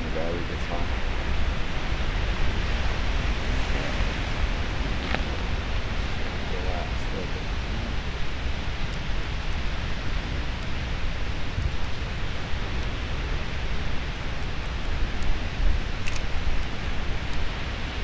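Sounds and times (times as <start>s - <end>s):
surf hissing on a beach: 0.0s - 18.0s
wind rumbling on microphone: 0.0s - 18.0s.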